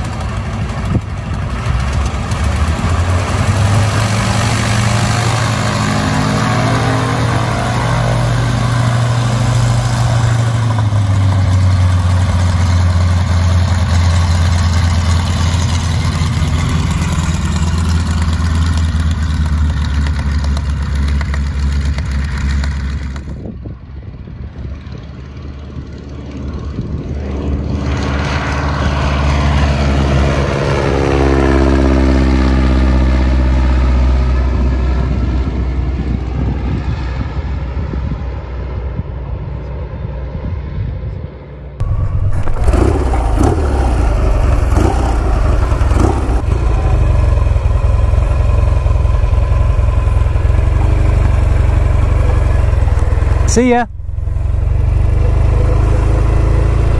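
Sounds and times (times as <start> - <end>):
biplane radial engine droning: 0.0 - 56.9.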